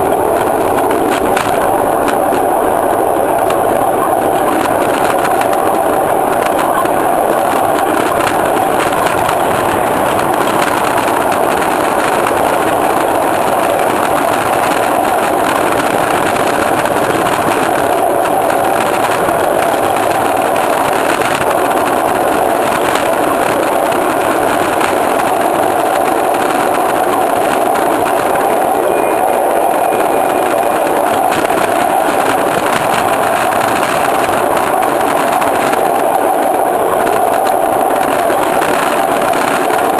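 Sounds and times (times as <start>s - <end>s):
wheels rumbling on rails: 0.0s - 39.9s.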